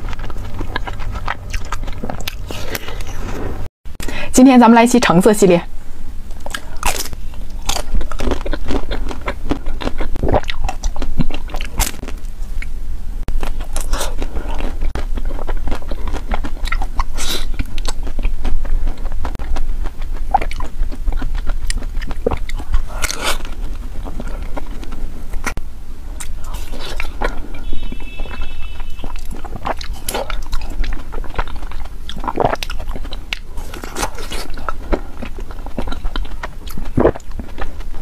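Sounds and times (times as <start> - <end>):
chewing: 0.0 - 3.4, 6.3 - 12.7, 13.3 - 38.0.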